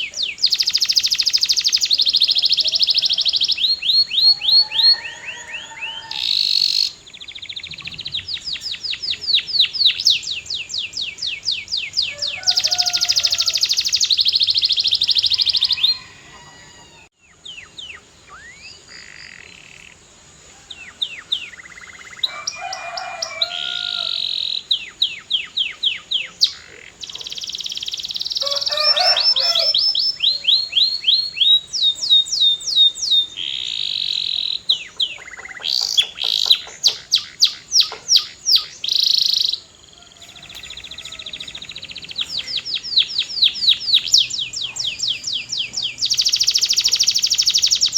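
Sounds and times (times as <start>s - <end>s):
canary singing: 0.0s - 20.0s, 20.7s - 47.9s.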